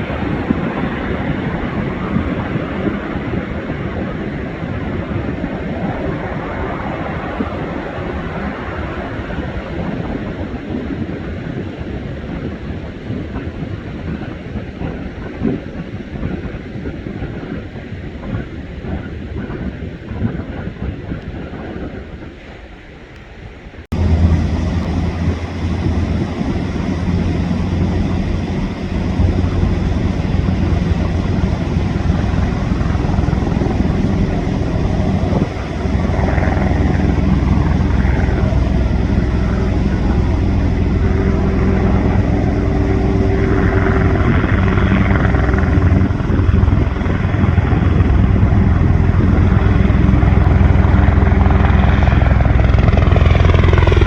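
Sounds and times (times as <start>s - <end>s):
helicopter rotor and engine noise: 0.0s - 21.9s, 23.9s - 54.0s.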